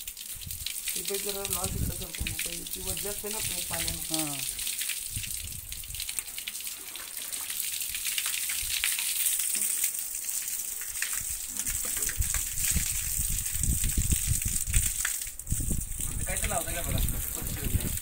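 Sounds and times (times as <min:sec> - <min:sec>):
water gushing and splashing: 0:00.0 - 0:18.0.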